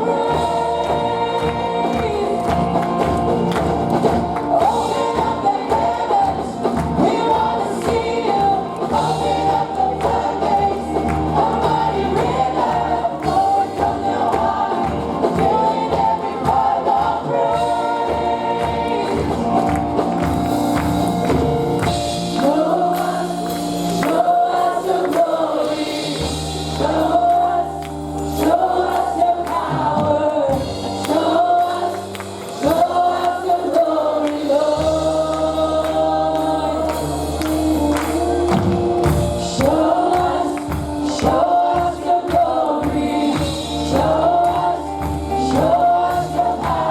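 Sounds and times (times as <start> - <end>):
band accompaniment with bass: 0.0 - 46.9
choir singing: 0.0 - 46.9.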